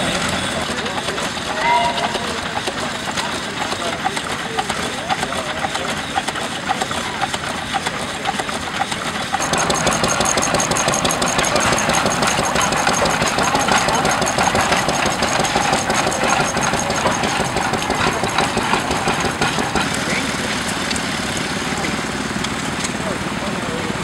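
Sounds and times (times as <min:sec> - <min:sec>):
stationary engine knocking: 0:00.0 - 0:24.0.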